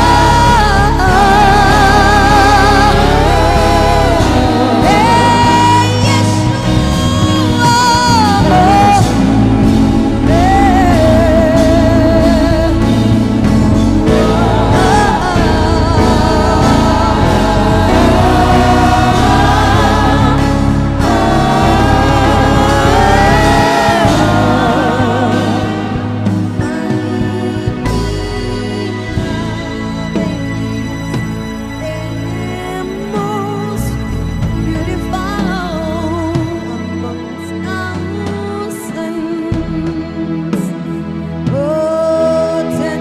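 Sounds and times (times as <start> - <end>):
band with steady bass: 0.0 - 43.0
person singing with vibrato: 0.0 - 43.0.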